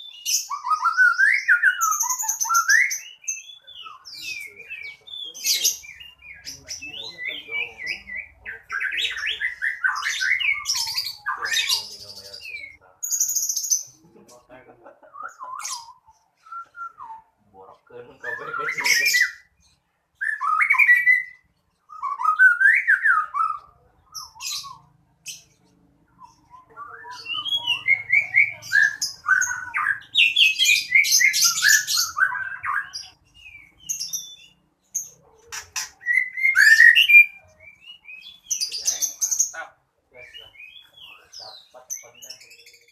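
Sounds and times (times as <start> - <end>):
songbird whistling and chirping: 0.0 - 14.0, 15.1 - 39.6, 40.2 - 42.9.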